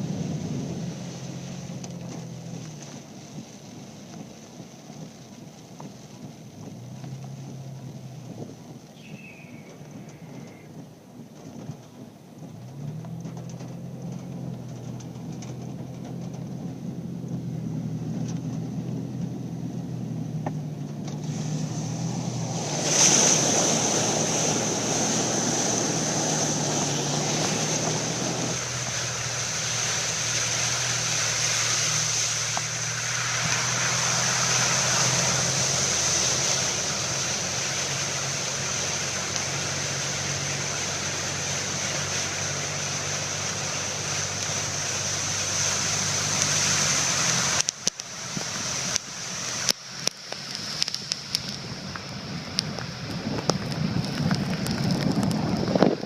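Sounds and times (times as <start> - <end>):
water rushing and splashing: 0.0 - 11.4, 12.5 - 56.0
engine running under load: 0.0 - 56.0.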